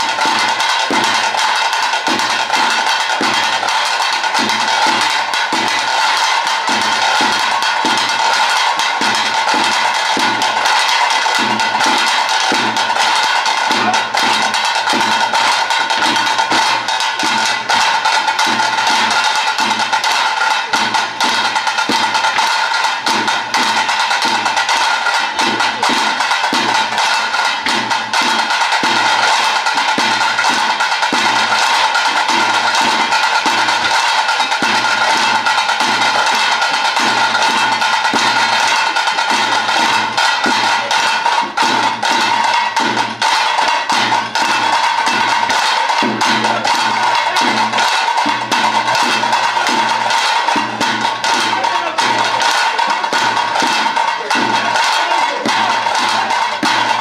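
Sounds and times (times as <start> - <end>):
drums playing steady beat: 0.0 - 57.0.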